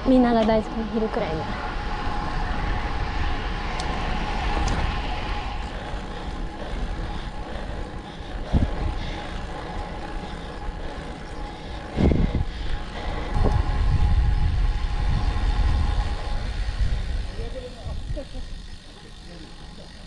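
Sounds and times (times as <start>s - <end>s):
tyre and road noise: 0.0s - 20.0s
wind buffeting microphone: 0.0s - 20.0s.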